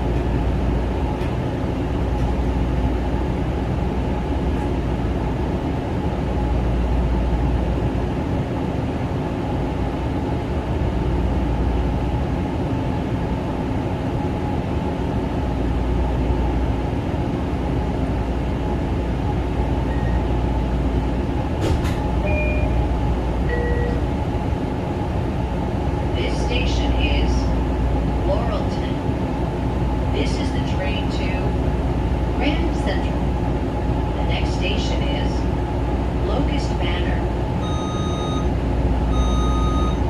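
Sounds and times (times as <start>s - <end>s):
train motor hum: 0.0s - 13.1s, 13.7s - 40.0s
train wheels rumbling on rail: 0.0s - 37.7s.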